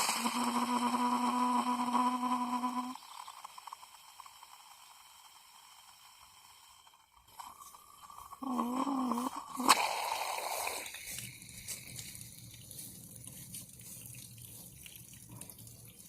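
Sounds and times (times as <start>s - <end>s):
faint hiss: 0.0s - 16.0s
water pump humming: 0.0s - 16.0s.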